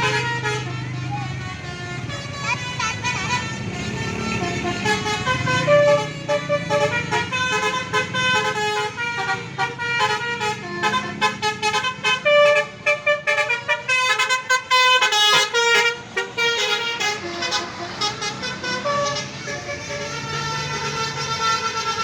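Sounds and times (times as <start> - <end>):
bus engine rumble: 0.0 - 22.0
multi-tone air horn melody: 0.0 - 22.0.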